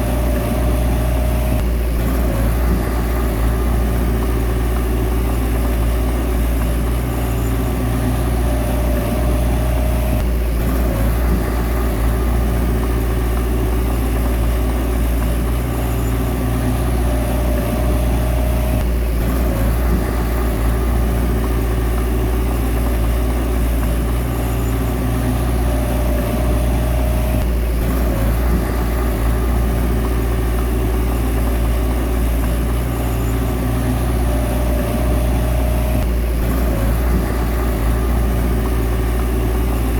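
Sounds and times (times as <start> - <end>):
bulldozer diesel engine running: 0.0 - 39.9
high machine whine: 0.0 - 39.9.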